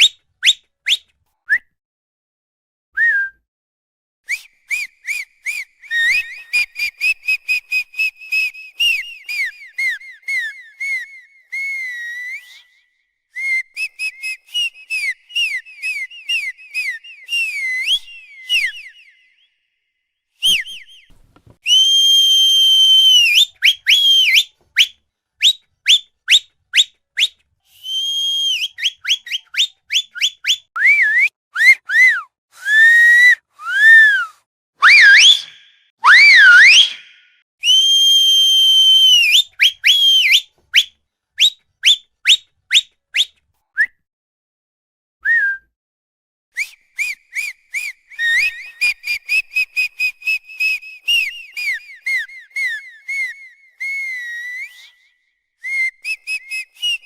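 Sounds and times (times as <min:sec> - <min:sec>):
whistled chirps and trills: 0:00.0 - 0:01.7, 0:04.3 - 0:44.0, 0:46.6 - 0:57.0
swooping whistle glides: 0:04.3 - 0:19.8, 0:20.4 - 0:43.3, 0:46.6 - 0:57.0
long held whistle notes: 0:04.3 - 0:26.4, 0:27.2 - 0:42.0, 0:46.6 - 0:57.0.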